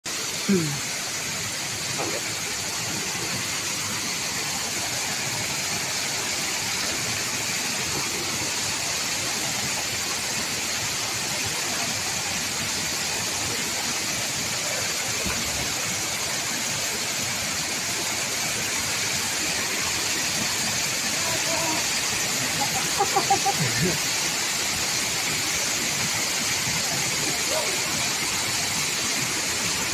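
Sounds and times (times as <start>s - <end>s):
waterfall rushing into a pool: 0.1s - 29.9s.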